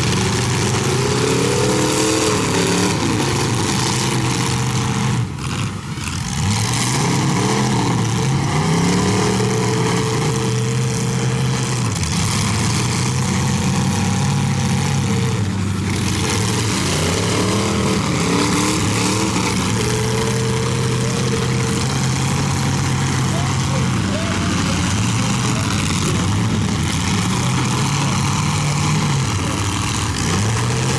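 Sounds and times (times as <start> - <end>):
car engines revving: 0.0 - 30.9.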